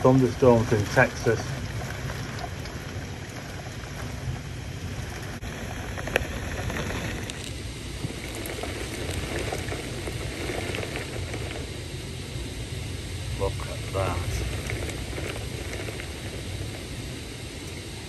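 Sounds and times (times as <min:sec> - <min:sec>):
heavy rain pouring: 0:00.0 - 0:18.0
low rumble: 0:00.0 - 0:18.0.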